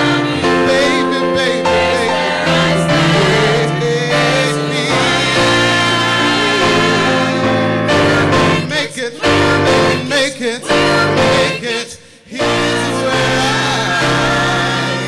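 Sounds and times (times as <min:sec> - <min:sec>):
male soloist singing: 0:00.0 - 0:15.0
youth choir singing: 0:00.0 - 0:15.0.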